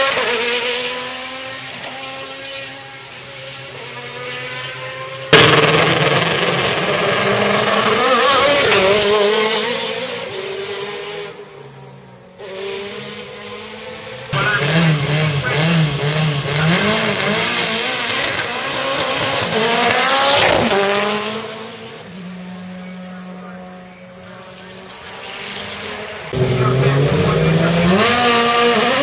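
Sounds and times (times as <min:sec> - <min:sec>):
race car revving in throttle blips: 0:00.0 - 0:11.6, 0:12.4 - 0:29.0
race car engine accelerating: 0:00.0 - 0:29.0.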